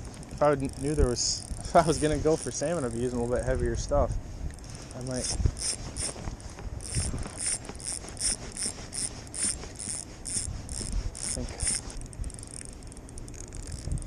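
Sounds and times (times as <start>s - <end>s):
fishing reel gears clicking: 0.3s - 3.5s, 4.5s - 6.2s, 6.8s - 14.0s.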